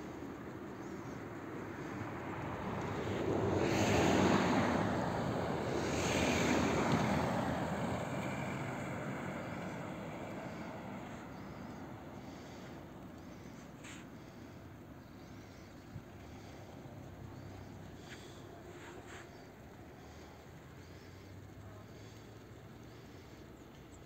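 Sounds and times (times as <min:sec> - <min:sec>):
cars passing on snowy road: 0:00.0 - 0:24.0.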